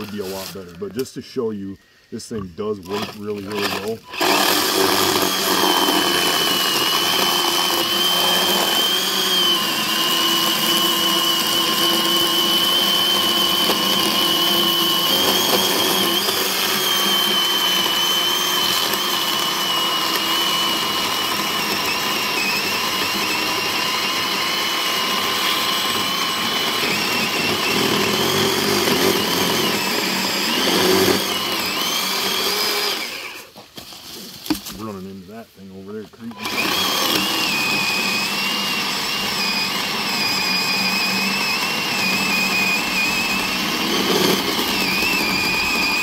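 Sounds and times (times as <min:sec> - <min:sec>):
electric chainsaw cutting log: 0:00.0 - 0:01.0, 0:02.8 - 0:35.1, 0:35.8 - 0:46.0.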